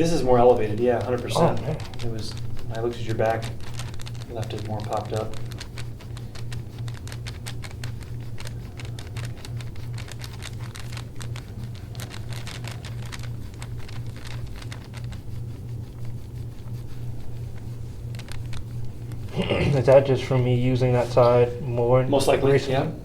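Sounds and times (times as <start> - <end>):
small clicks and crackles: 0.1 - 20.1.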